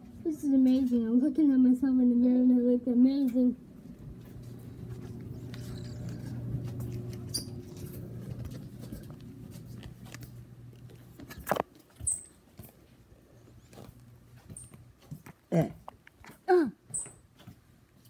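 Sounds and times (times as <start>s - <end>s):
low steady hum: 0.0s - 17.3s.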